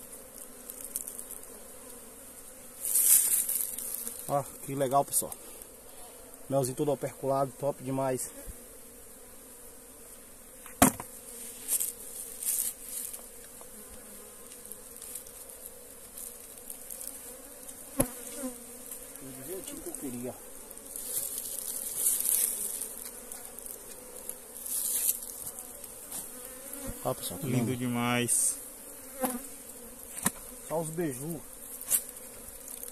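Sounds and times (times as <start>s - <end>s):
honey bees buzzing: 0.0s - 32.9s.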